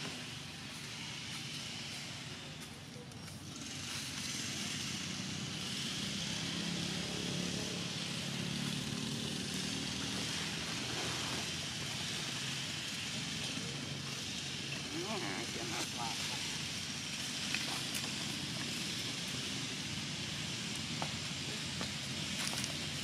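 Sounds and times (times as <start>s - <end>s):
steady high hiss: 0.0s - 23.0s
vehicle engine humming: 0.0s - 23.0s.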